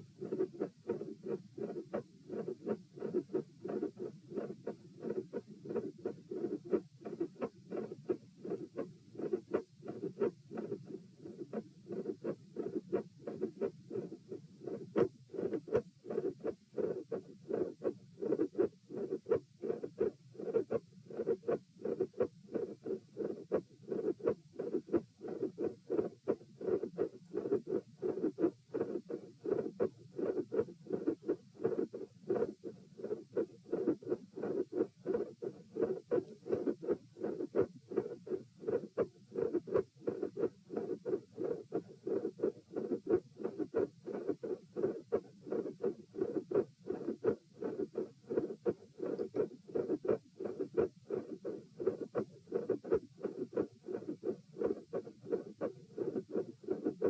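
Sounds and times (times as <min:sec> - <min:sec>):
heartbeat with clicks: 0:00.0 - 0:57.0.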